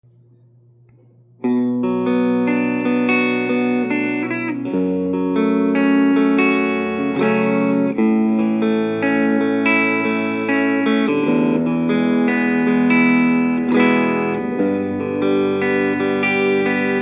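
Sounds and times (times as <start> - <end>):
faint low amp hum: 0.0 - 17.0
electric guitar notes and chords: 1.4 - 17.0.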